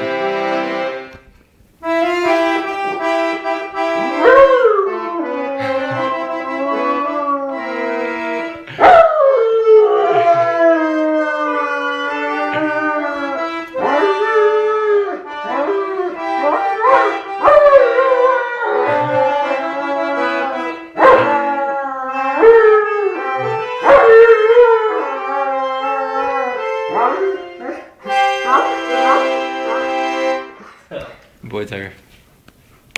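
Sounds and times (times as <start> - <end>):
accordion chords: 0.0 - 31.1
dog howling: 4.2 - 30.8.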